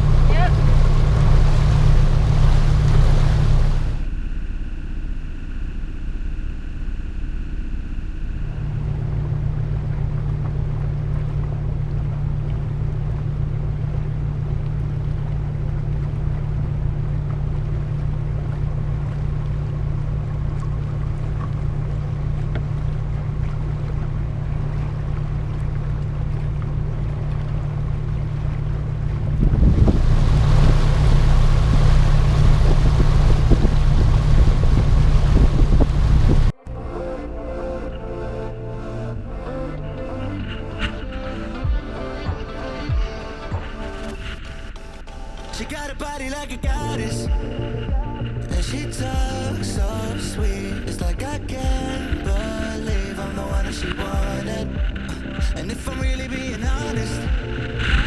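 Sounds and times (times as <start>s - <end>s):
rush of wind and water: 0.0s - 4.3s, 8.7s - 36.6s, 40.3s - 58.0s
motorboat engine droning: 0.0s - 58.0s.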